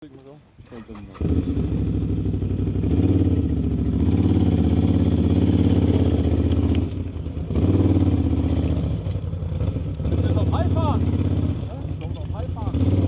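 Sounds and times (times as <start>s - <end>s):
atv engine running: 0.6s - 13.0s.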